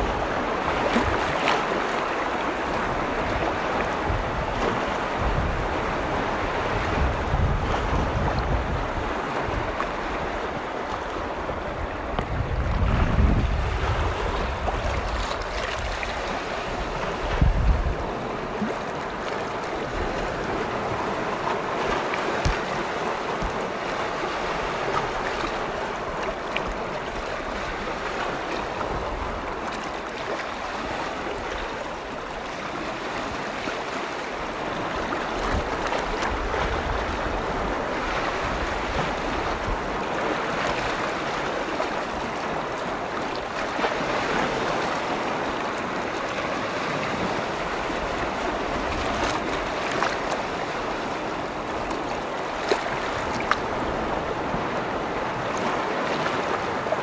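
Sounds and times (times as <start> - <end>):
small waves washing on shore: 0.0 - 57.0
water splashes: 0.0 - 57.0
wind rumble on microphone: 0.0 - 57.0.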